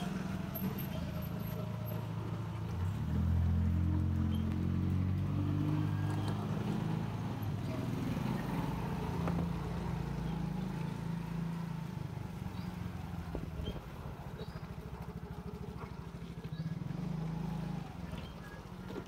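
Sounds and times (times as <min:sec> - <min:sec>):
small motorcycle engine passing: 0:00.0 - 0:19.0.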